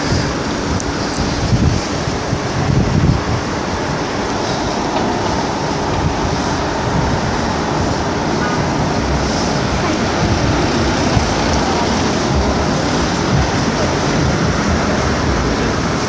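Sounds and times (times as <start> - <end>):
road traffic rumble: 0.0 - 16.0
wind: 0.0 - 16.0.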